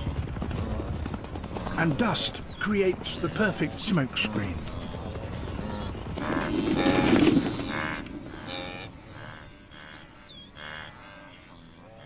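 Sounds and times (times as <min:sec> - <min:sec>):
wildebeest calling: 0:01.7 - 0:12.0.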